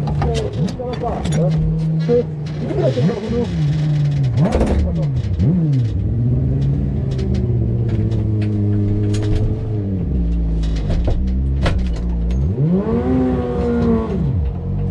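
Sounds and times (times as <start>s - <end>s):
clicks and knocks of handling: 0.0s - 12.5s
motorcycle engine idling and revving: 0.0s - 14.9s.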